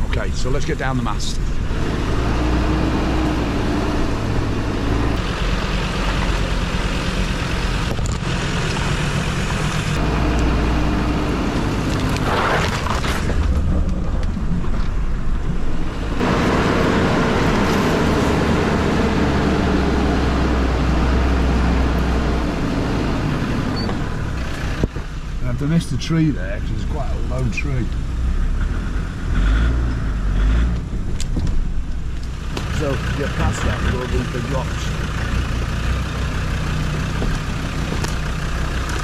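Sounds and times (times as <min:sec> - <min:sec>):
off-road engine running at low revs: 0:00.1 - 0:12.6, 0:13.2 - 0:39.0.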